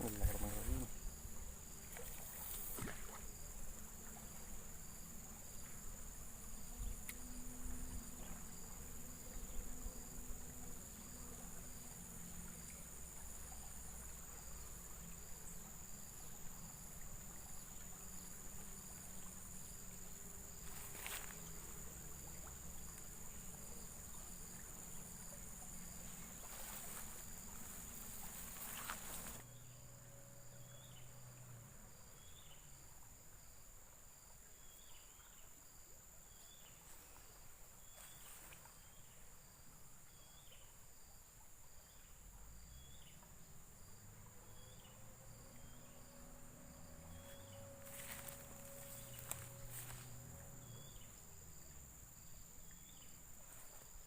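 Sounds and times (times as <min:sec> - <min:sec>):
insect chorus chirping: 0:00.0 - 0:54.0.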